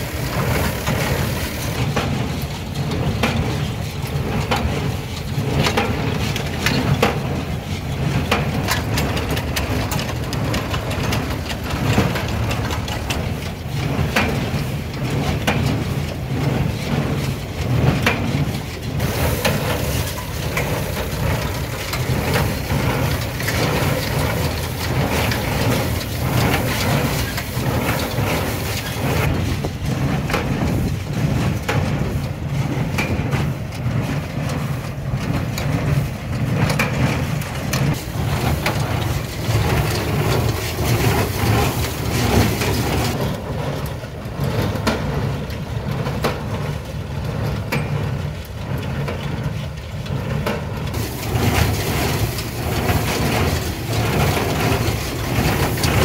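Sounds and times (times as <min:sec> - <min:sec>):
baler clattering: 0:00.0 - 0:56.0
tractor diesel engine running: 0:00.0 - 0:56.0.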